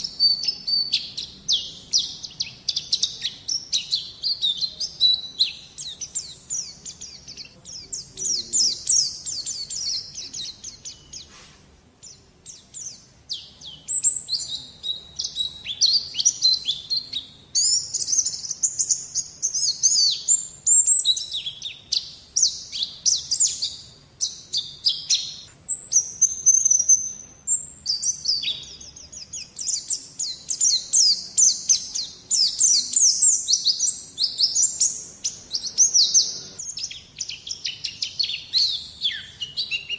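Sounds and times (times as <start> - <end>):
bird twittering chirps: 0.0 - 39.9.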